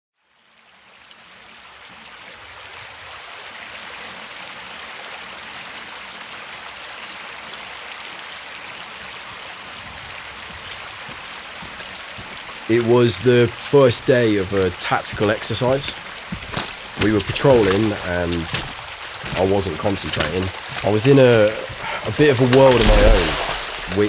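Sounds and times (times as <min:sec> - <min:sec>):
stony stream running: 0:00.3 - 0:24.0.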